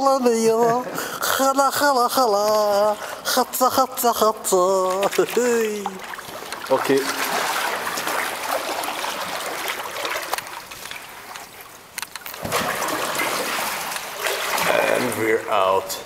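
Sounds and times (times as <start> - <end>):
paddle water splashing: 0.0 - 15.8.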